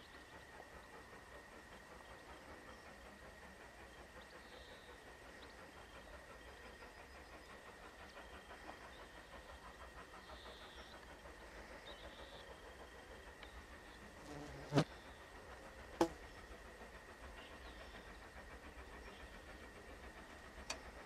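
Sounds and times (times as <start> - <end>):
distant steam locomotive: 0.0 - 21.0.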